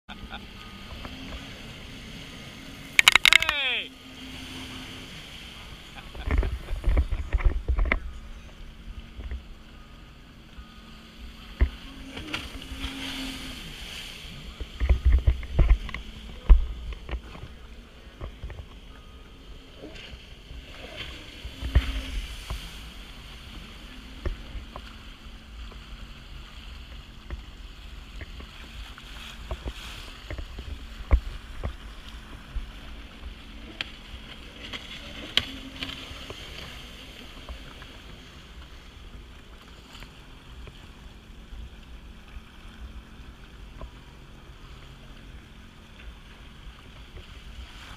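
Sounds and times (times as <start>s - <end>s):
jet ski engine running: 0.1s - 47.9s
wind and water buffeting: 0.1s - 47.9s.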